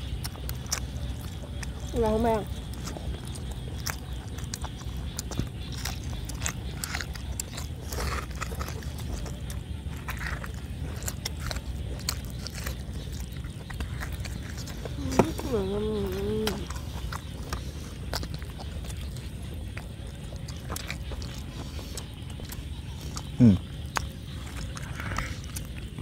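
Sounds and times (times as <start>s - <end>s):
people chewing and biting meat: 0.0s - 26.0s.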